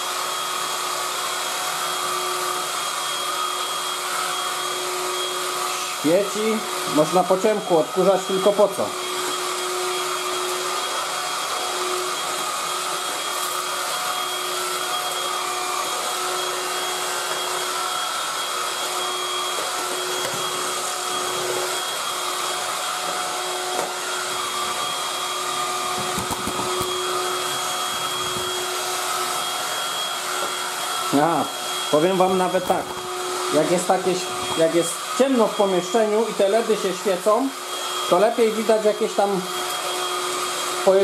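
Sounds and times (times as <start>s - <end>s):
stick vacuum running: 0.1s - 38.4s.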